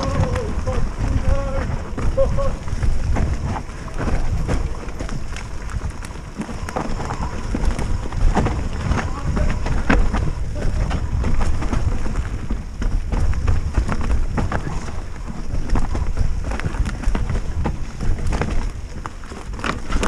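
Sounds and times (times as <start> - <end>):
bike rattling over roots: 0.0 - 20.0
bike tyres rumbling on dirt trail: 0.0 - 20.0
wind on microphone: 0.0 - 20.0.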